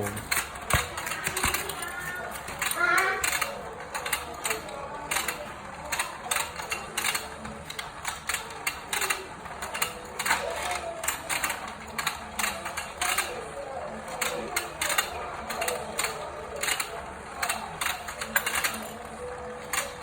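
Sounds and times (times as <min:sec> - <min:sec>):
toy plastic gears clicking: 0:00.0 - 0:20.0.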